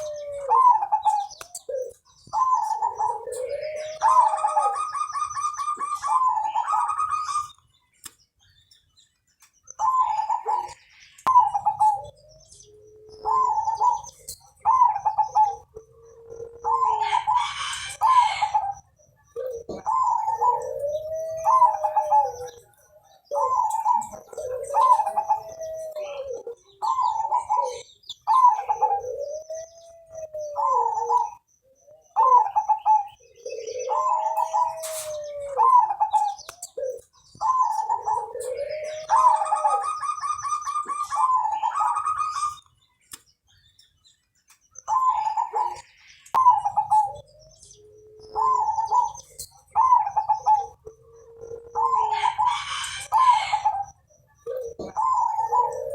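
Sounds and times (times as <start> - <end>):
dove cooing: 0.0 - 7.6, 9.7 - 42.8, 44.8 - 55.9.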